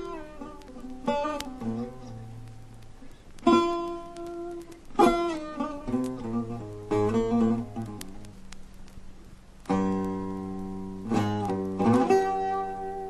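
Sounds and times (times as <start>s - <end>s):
long-necked lute plucked solo: 0.0s - 8.4s, 9.7s - 13.0s.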